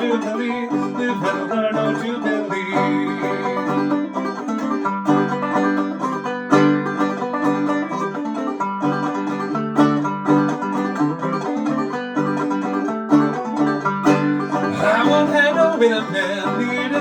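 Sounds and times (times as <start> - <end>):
banjo picking and strumming: 0.0 - 17.0.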